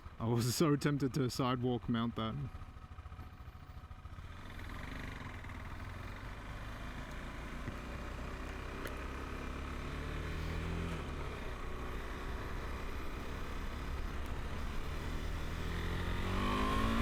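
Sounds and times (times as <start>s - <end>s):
motorcycle engine running: 2.5s - 17.0s.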